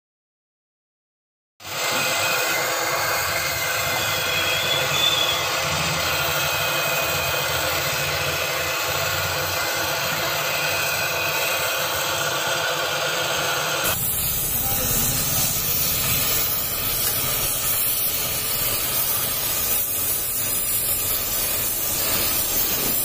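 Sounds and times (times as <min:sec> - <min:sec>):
welding torch flame hissing: 0:01.6 - 0:23.0.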